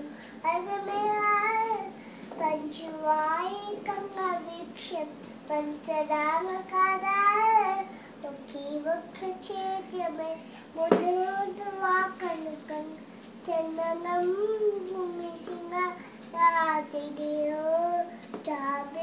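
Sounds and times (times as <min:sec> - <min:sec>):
girl singing: 0:00.0 - 0:19.0.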